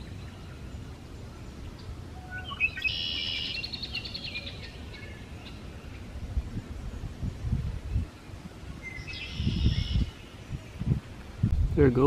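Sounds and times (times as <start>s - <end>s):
bird song with buzzy trill: 0.0s - 11.0s.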